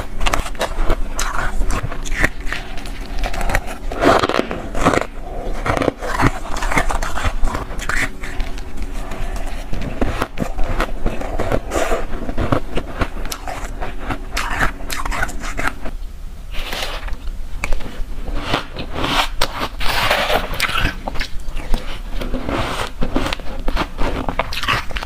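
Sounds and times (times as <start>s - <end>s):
crunching and chewing ice: 0.0s - 15.8s, 17.6s - 25.0s.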